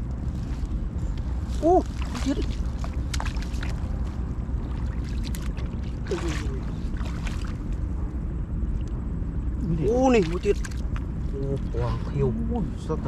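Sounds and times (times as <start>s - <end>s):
water sloshing and splashing: 0.2s - 8.9s, 9.8s - 12.2s.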